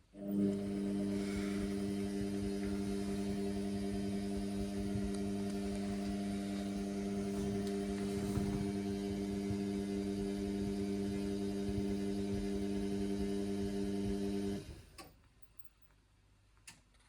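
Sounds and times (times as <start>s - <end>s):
washing machine motor hum: 0.0s - 14.9s.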